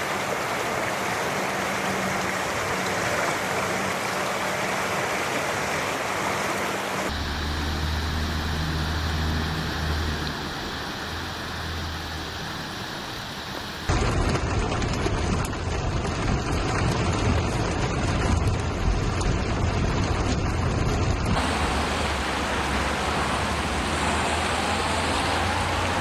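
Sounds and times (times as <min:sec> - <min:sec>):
heavy rain: 0:00.0 - 0:26.0
running floodwater: 0:00.0 - 0:26.0.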